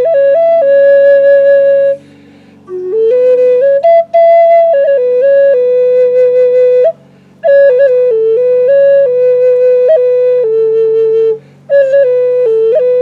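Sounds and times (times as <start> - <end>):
flute playing slow melody: 0.0 - 13.0.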